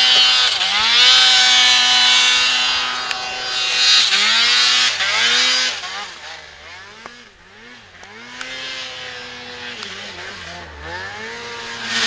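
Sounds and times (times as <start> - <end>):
snowmobile engine revving hard: 0.0 - 12.0.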